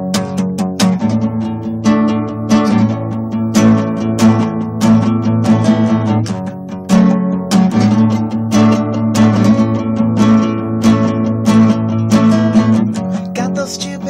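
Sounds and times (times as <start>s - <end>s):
guitar strumming: 0.0s - 14.0s.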